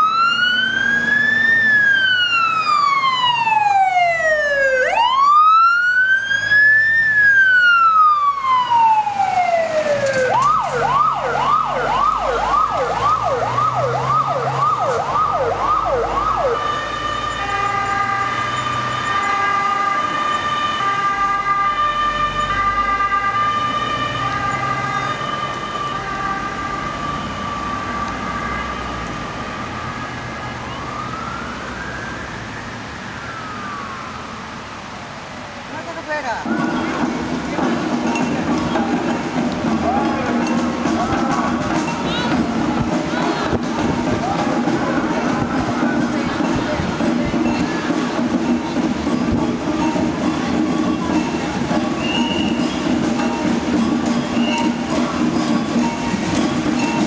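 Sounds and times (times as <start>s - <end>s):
fire engine siren: 0.0s - 57.0s.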